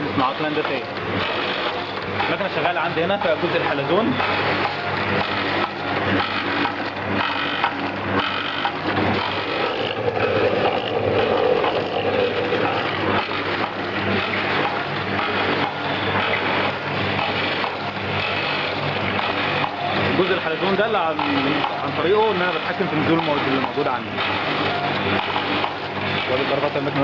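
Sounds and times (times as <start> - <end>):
machine stroke: 0.0 - 27.0
packing machine humming: 0.0 - 27.0.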